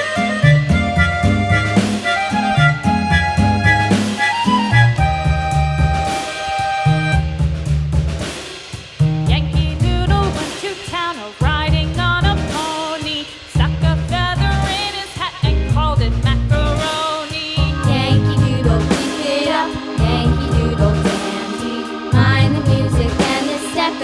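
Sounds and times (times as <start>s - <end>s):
song with bass and drum beat: 0.0s - 24.0s.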